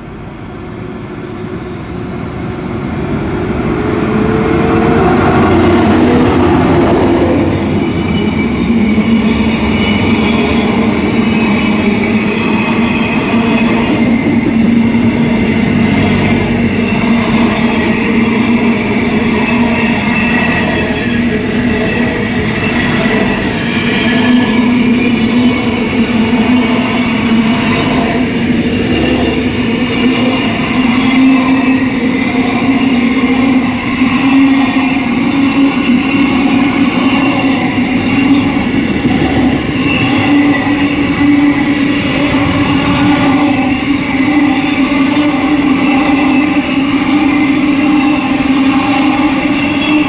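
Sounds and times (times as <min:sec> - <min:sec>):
train running close by: 0:00.0 - 0:50.0.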